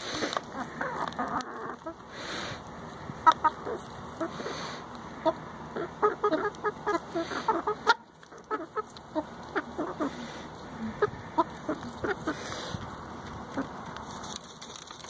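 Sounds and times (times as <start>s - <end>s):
hens clucking softly: 0.0s - 14.0s.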